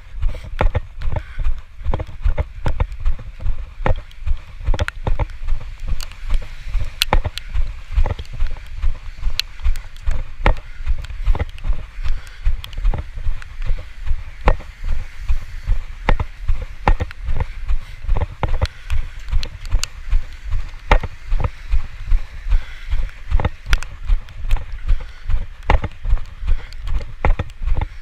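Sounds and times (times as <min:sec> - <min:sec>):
footsteps on wet pavement: 0:00.0 - 0:28.0.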